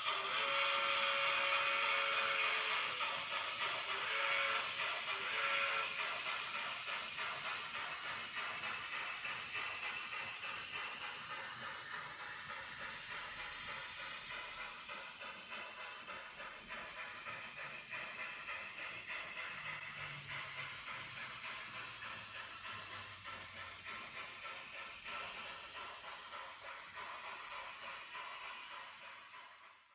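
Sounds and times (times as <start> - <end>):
model steam locomotive chuffing: 0.0 - 29.9.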